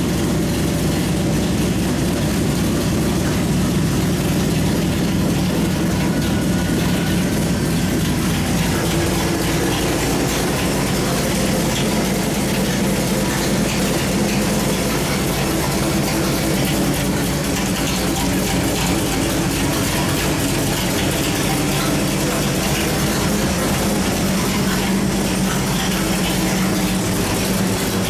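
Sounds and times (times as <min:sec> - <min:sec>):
engine running on dyno: 0:00.0 - 0:28.0.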